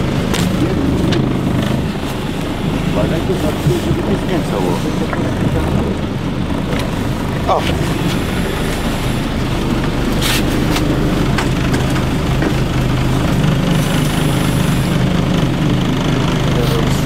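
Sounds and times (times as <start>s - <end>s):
boat engine idling hum: 0.0s - 17.0s.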